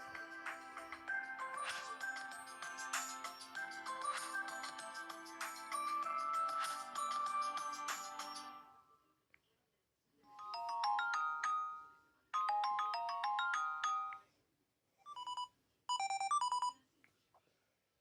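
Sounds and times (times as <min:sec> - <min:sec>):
bright chiming ringtone melody: 0:00.0 - 0:09.0, 0:10.3 - 0:14.2, 0:15.1 - 0:16.8.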